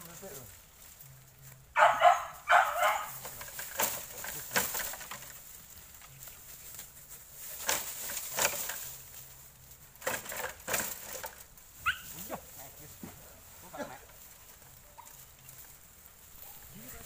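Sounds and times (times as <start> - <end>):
dry leaves crackling underfoot: 0.0 - 17.0.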